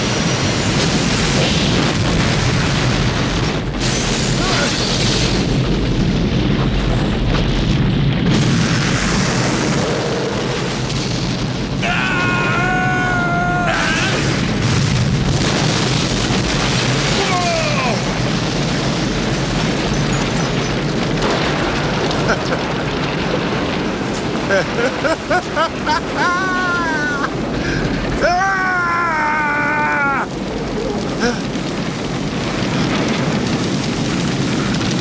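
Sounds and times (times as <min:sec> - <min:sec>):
fire and explosions rumbling: 0:00.0 - 0:35.0.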